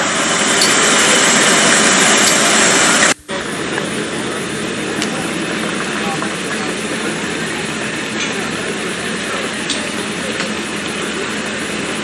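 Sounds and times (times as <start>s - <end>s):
diesel train engine: 0.0s - 12.0s.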